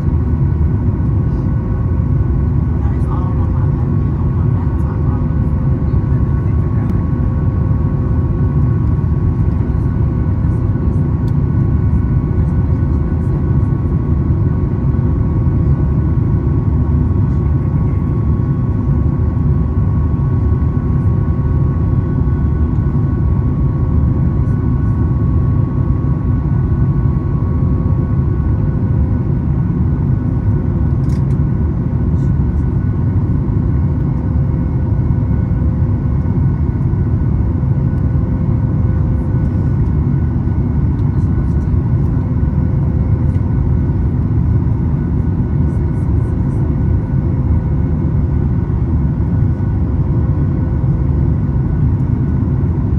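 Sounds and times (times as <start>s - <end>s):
jet engine roar in cabin: 0.0s - 52.9s.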